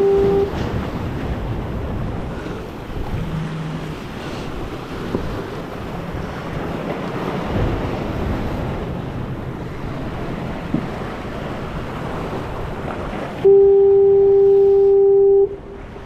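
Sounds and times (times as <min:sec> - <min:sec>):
wind buffeting microphone: 0:00.0 - 0:13.4
ocean surf against rocks: 0:00.0 - 0:16.0.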